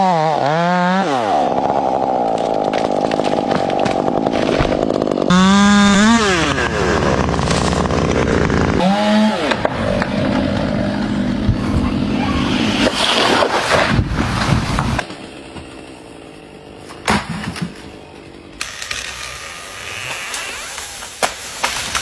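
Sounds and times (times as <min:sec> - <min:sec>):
chainsaw revving and cutting wood: 0:00.0 - 0:16.8, 0:17.6 - 0:22.0.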